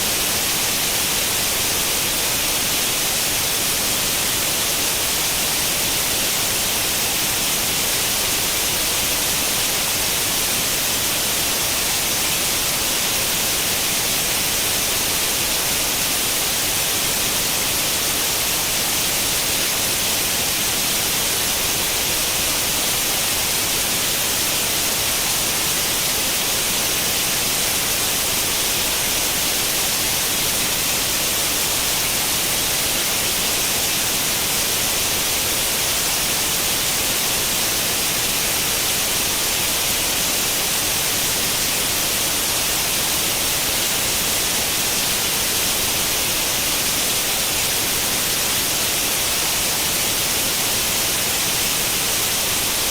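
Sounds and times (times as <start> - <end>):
tv static hiss: 0.0 - 52.9.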